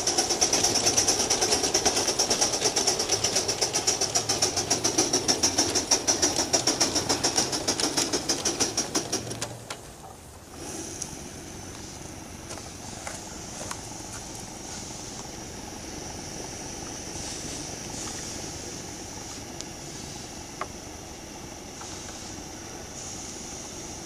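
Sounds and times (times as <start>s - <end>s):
steam locomotive exhaust hissing: 0.0s - 24.0s.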